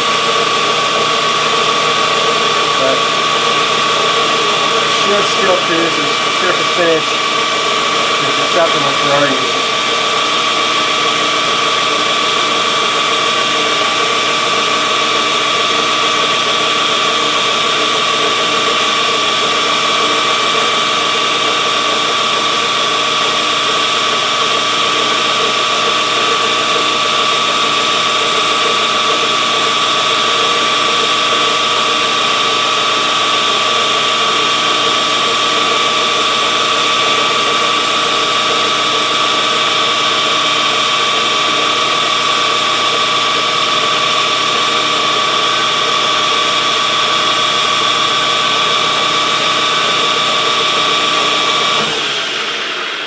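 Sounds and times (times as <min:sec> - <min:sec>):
lathe cutting steel: 0:00.0 - 0:53.0
metal lathe whine: 0:00.0 - 0:53.0.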